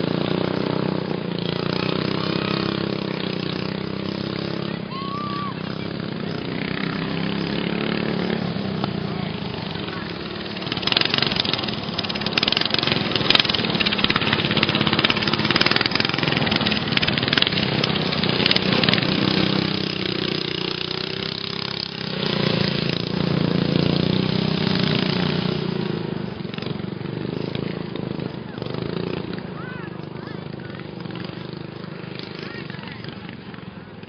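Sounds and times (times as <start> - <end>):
racing lawn mower engines: 0.0 - 34.0.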